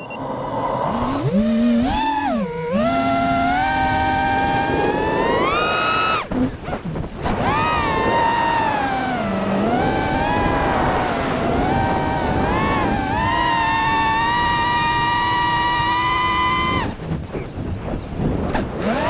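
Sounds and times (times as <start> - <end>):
quadcopter motors whining: 0.0 - 17.0, 18.8 - 19.0.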